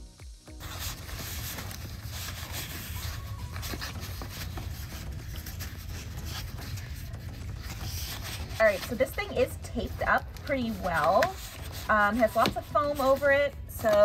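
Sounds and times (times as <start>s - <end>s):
foam wrap rustling: 0.6s - 14.0s.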